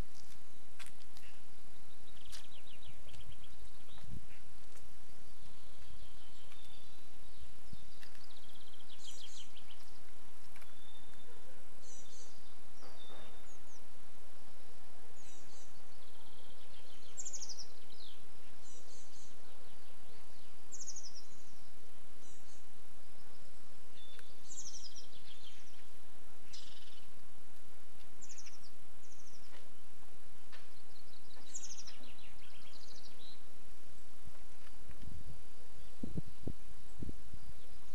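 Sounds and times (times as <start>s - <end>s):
low background noise: 0.0s - 37.9s
songbirds trilling: 0.0s - 37.9s.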